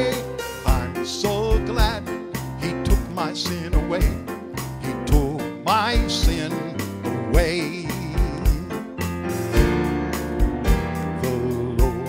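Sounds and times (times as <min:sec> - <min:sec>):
man singing gospel with vibrato: 0:00.0 - 0:09.0, 0:10.9 - 0:12.0
digital keyboard playing: 0:00.0 - 0:12.0
steady beat: 0:00.0 - 0:12.0.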